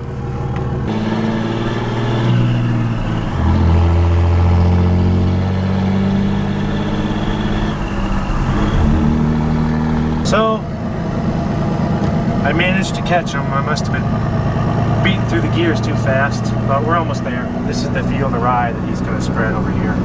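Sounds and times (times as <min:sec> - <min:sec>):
pickup truck accelerating: 0:00.0 - 0:20.0.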